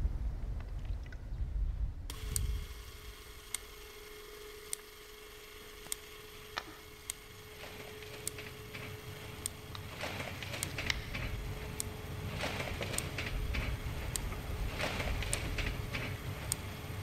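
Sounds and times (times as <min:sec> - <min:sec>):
steady hum: 0:00.0 - 0:17.0
electric train rumbling: 0:01.5 - 0:17.0.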